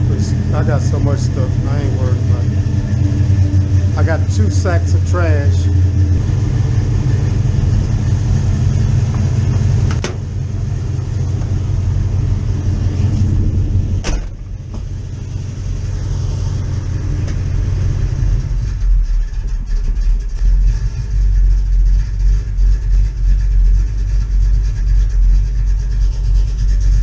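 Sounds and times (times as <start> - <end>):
engine idling low rumble: 0.0 - 27.0.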